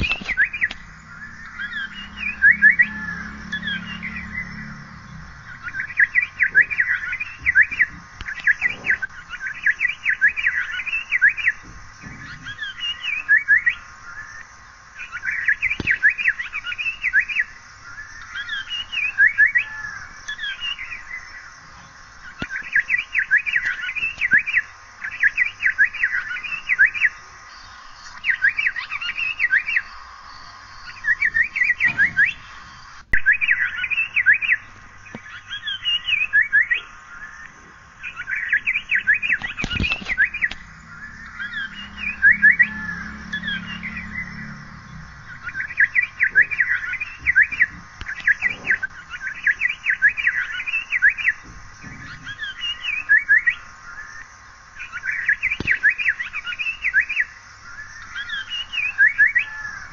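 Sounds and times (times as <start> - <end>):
bird calling in rapid bursts: 0.0 - 21.6, 22.2 - 59.9.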